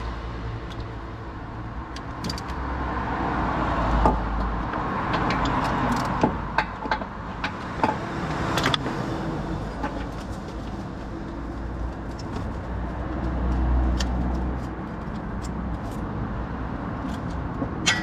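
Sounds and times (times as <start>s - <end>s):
motor vehicle noise: 0.0s - 18.0s.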